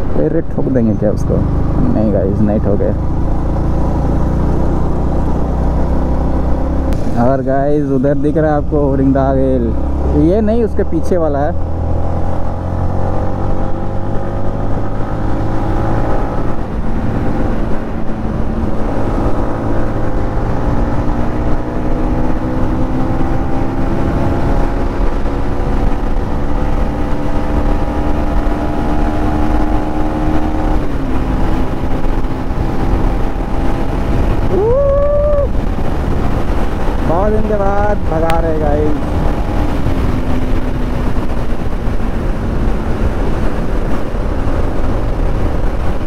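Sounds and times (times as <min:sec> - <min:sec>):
low road and wind rumble: 0:00.0 - 0:46.0
motorcycle engine running at speed: 0:00.0 - 0:46.0.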